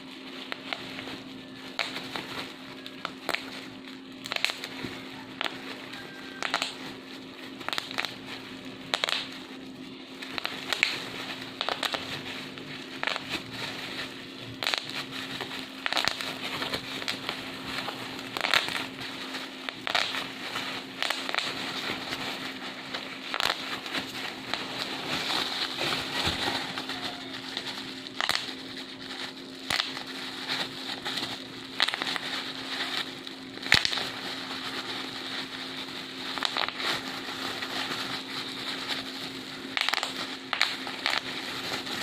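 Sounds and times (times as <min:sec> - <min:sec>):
bubble wrap crackling and popping: 0:00.0 - 0:42.0.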